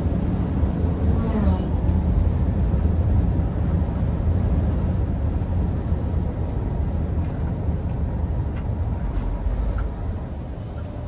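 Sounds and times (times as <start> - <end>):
diesel truck engine drone: 0.0 - 11.0
tyre and road noise: 0.0 - 11.0.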